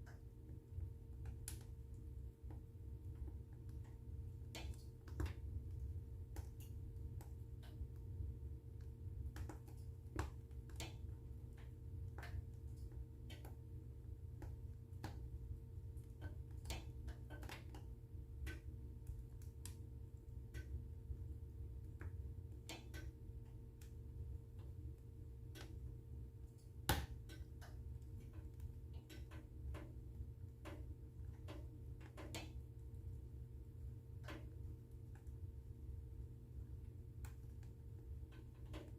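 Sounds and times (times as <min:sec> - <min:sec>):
low steady rumble: 0:00.0 - 0:38.9
wood fire crackling: 0:00.0 - 0:38.9.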